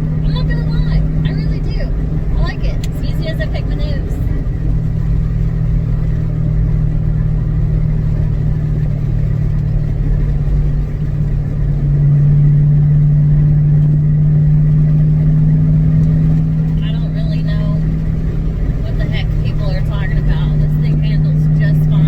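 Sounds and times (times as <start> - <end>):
car engine droning while driving: 0.0 - 22.0.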